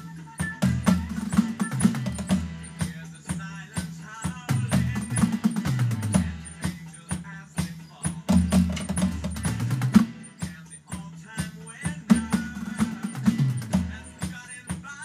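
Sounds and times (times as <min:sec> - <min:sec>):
electronic drum kit playing: 0:00.0 - 0:15.0.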